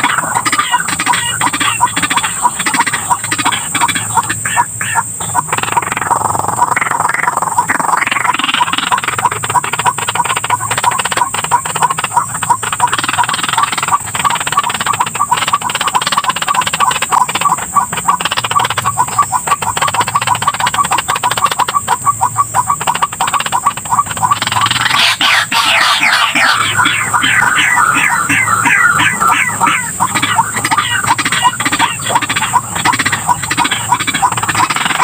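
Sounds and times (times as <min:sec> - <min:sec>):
bird harsh croaking call: 0:00.0 - 0:35.0.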